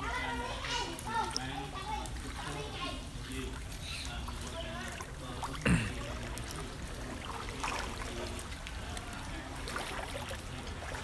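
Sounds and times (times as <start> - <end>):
faint voices: 0.0 - 11.0
water sloshing from wading: 0.0 - 11.0.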